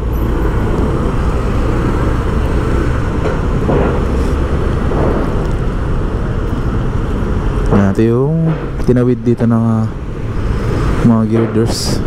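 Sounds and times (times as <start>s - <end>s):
low rumble of road traffic: 0.0s - 12.0s
vehicles passing close by: 0.0s - 12.0s.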